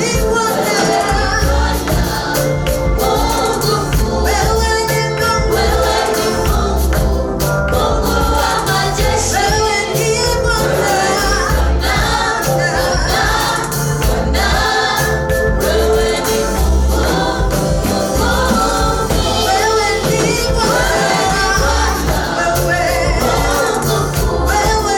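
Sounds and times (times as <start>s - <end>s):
gospel choir singing: 0.0s - 24.9s
instrumental backing with bass beat: 0.0s - 24.9s.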